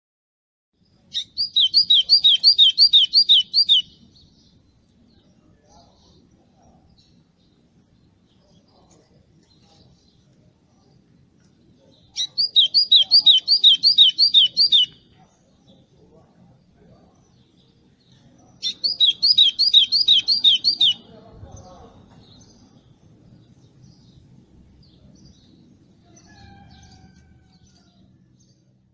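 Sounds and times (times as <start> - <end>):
songbird singing: 0.8 - 28.9.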